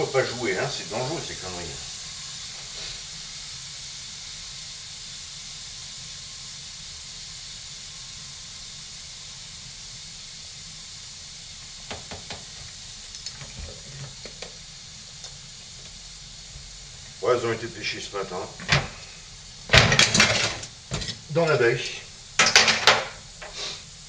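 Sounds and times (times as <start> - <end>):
pressure cooker hissing: 0.0 - 24.0.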